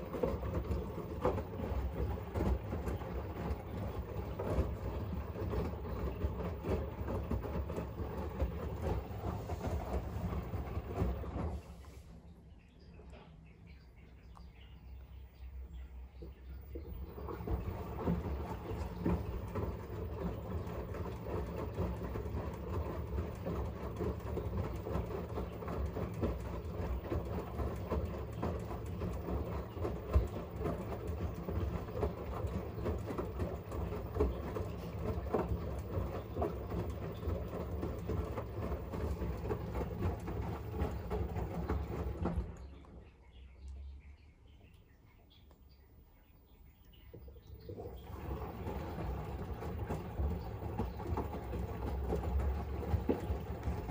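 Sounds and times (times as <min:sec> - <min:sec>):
water sloshing in washing machine: 0:00.0 - 0:13.5, 0:14.2 - 0:53.9
washing machine motor hum: 0:00.0 - 0:53.9.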